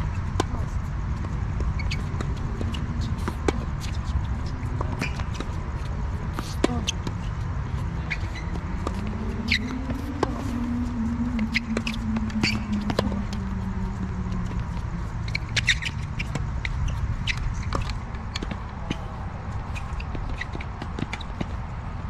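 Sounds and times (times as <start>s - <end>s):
shoe squeaks: 0.0s - 21.7s
tennis ball bouncing: 0.0s - 21.8s
low hum: 0.0s - 21.9s
steady low rumble: 0.0s - 22.0s
racket hitting tennis ball: 0.1s - 10.6s, 11.4s - 21.6s.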